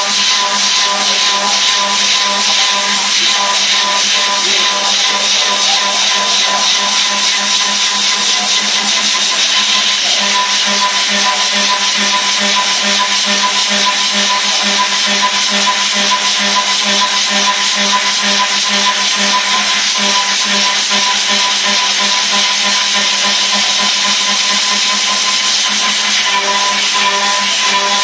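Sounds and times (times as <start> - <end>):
milling machine cutting steel: 0.0 - 28.0.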